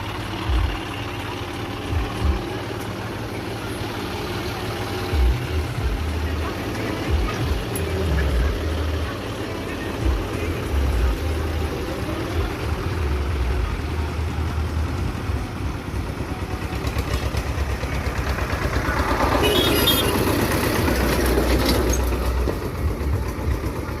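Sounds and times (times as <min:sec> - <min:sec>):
tractor engine rumbling: 0:00.0 - 0:24.0.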